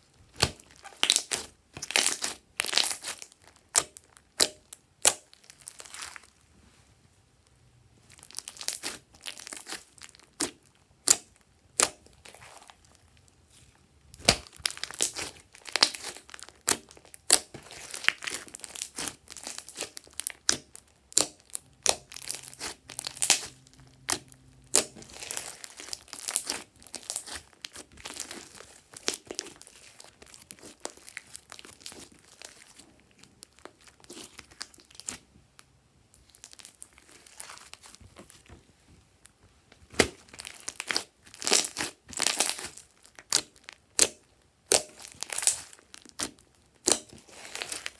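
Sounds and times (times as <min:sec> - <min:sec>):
hands squeezing wet slime: 0:00.3 - 0:06.3, 0:08.1 - 0:13.1, 0:14.1 - 0:35.2, 0:40.0 - 0:47.9.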